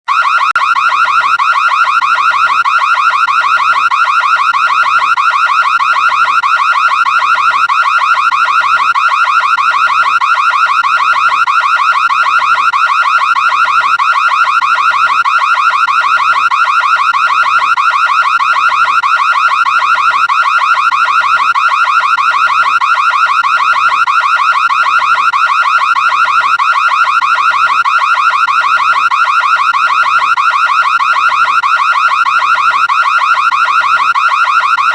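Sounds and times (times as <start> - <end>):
warbling alarm siren: 0.1 - 34.9.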